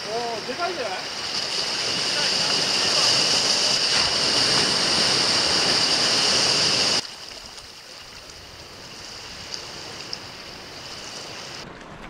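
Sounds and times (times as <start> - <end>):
waves washing over rocks: 0.0 - 11.6.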